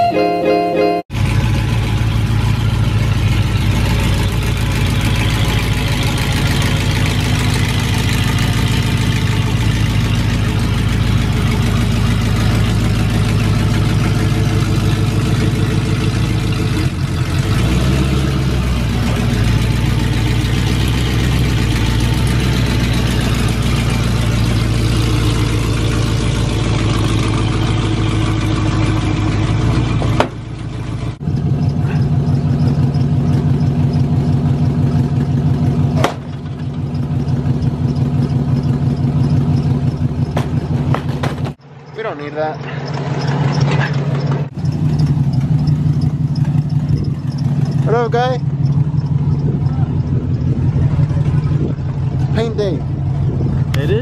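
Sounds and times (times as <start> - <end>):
pickup truck engine idling: 1.2 - 17.6, 18.7 - 54.0.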